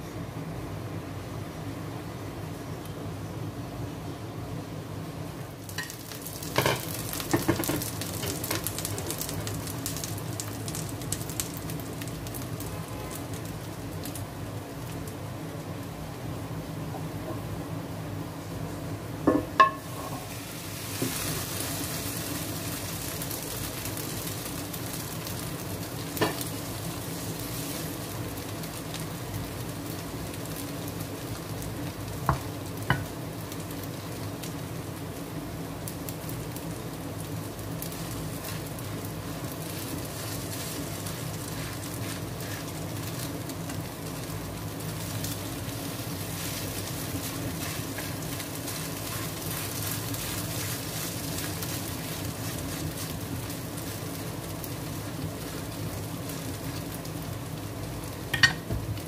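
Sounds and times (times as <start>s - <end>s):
omelette sizzling in oil: 5.1s - 16.8s, 19.2s - 59.0s.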